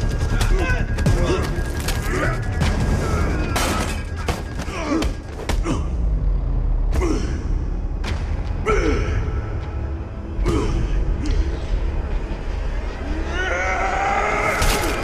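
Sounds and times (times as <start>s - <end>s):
dramatic score rumble: 0.0s - 15.0s.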